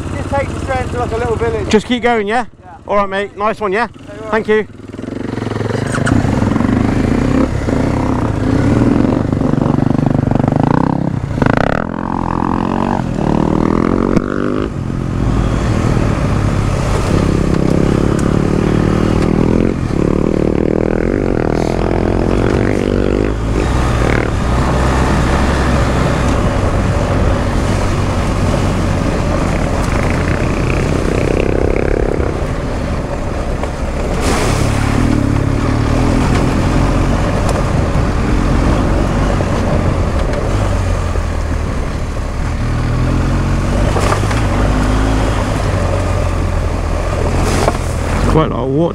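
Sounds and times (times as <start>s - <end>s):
motorcycle engine revving: 2.8s - 48.9s.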